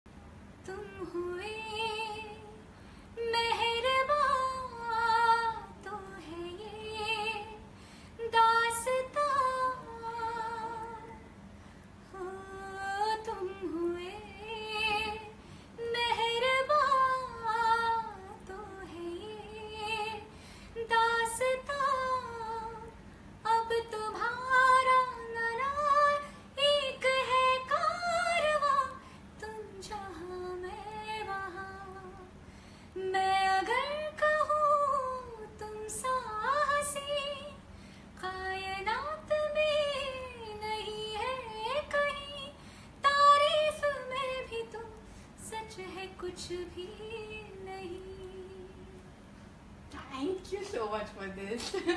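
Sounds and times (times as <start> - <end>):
woman singing: 0.6 - 11.2, 12.0 - 49.1.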